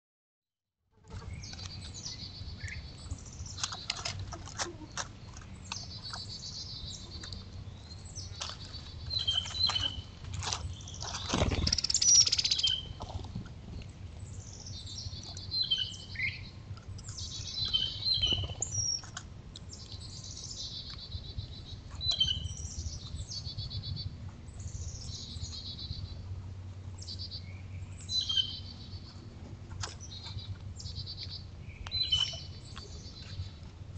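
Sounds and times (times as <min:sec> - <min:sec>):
steady low hum: 0:00.9 - 0:33.9
songbirds chirping: 0:01.1 - 0:33.9.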